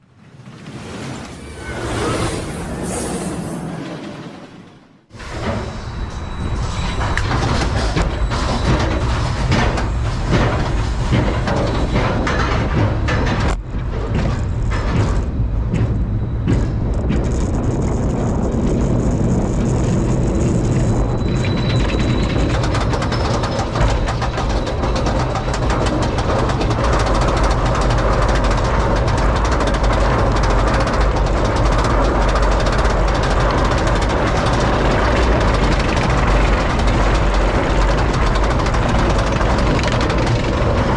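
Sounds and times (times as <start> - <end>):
roller coaster train on track: 0.0 - 40.9.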